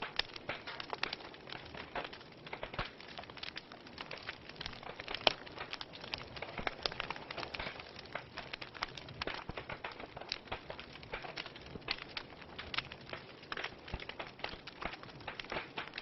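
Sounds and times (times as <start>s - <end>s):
logs crackling and popping: 0.0s - 16.0s.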